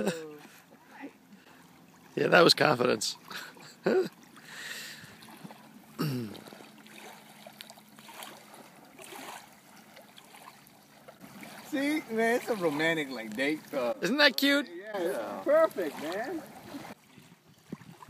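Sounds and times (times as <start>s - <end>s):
lake water trickling and splashing: 0.0s - 18.0s.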